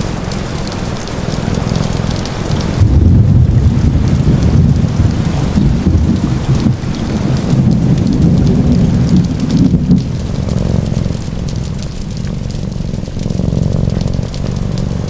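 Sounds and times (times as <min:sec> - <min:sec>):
steady rain falling: 0:00.0 - 0:15.0
deep rolling rumble: 0:01.4 - 0:15.0.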